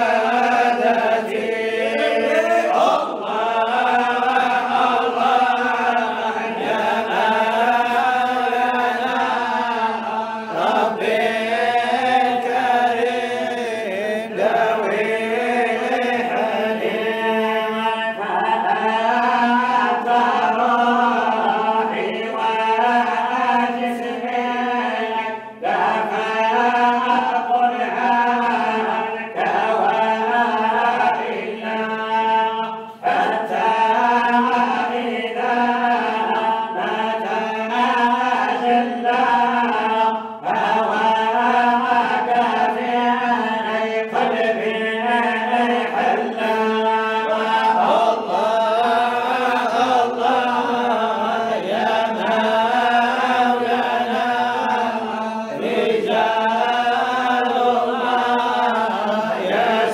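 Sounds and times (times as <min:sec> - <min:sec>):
male voices chanting: 0:00.0 - 0:59.9.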